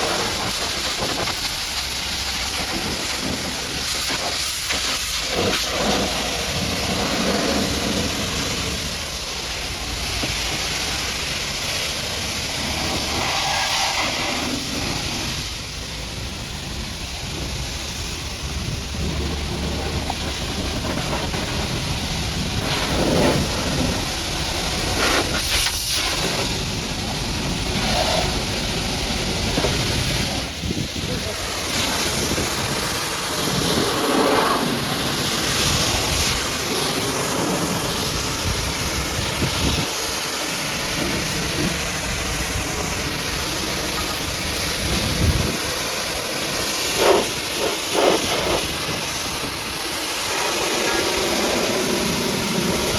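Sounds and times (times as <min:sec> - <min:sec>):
pressure washer spraying: 0:00.0 - 0:52.9.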